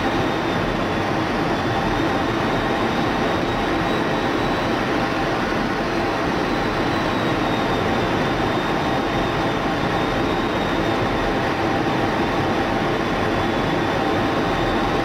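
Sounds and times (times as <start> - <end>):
faint high whine: 0.0 - 15.0
rush of air and jet engine: 0.0 - 15.0.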